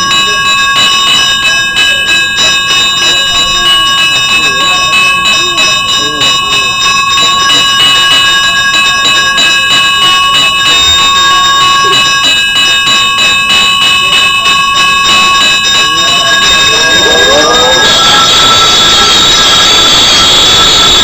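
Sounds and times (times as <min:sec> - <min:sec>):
temple bell ringing rapidly: 0:00.0 - 0:21.0.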